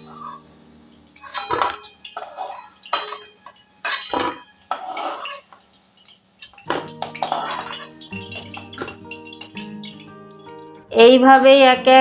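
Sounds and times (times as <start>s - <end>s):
metal spoon scraping a pan: 0.0s - 10.8s.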